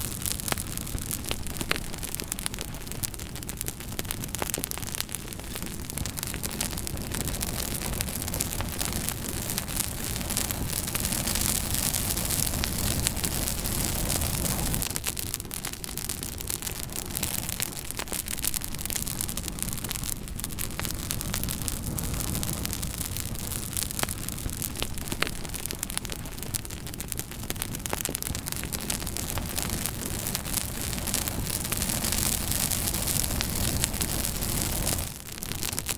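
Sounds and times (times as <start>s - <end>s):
fire crackling and popping: 0.0s - 35.9s
wood fire flames rushing: 0.0s - 35.9s.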